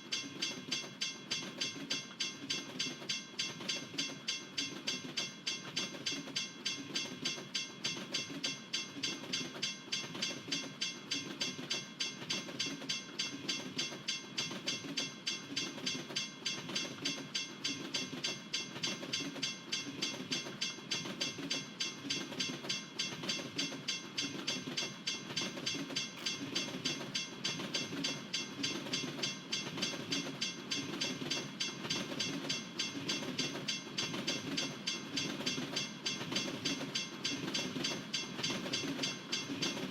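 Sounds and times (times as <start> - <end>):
rhythmic wheel clicking: 0.0 - 39.9.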